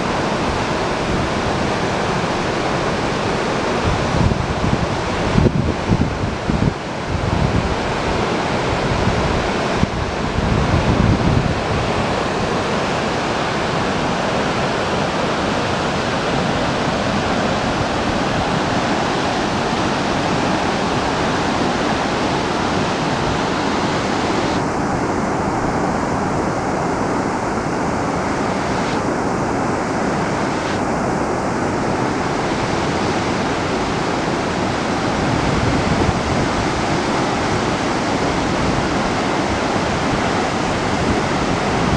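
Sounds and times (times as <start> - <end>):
waterfall rushing: 0.0 - 41.9
wind buffeting microphone: 0.0 - 41.9.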